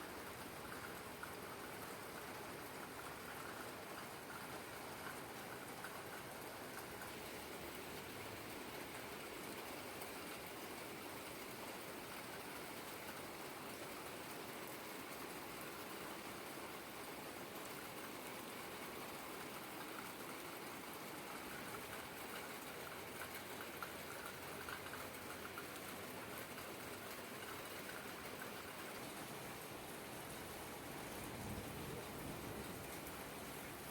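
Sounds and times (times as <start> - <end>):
raindrops: 0.0 - 33.9
steady rain falling: 0.0 - 33.9.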